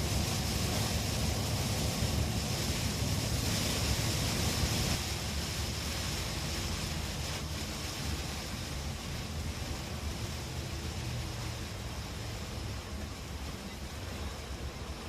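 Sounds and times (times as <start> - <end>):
heavy rain: 0.0 - 15.0
wind rumbling on microphone: 0.0 - 15.0.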